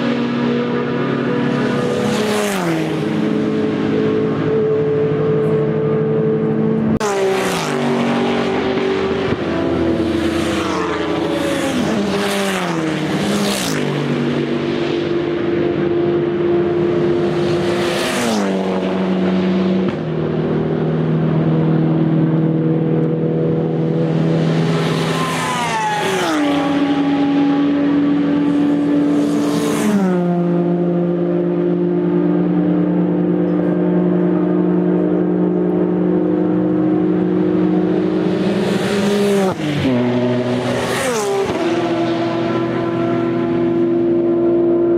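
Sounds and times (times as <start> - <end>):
engine drone: 0.0 - 44.9
race cars passing at high revs: 0.0 - 44.9.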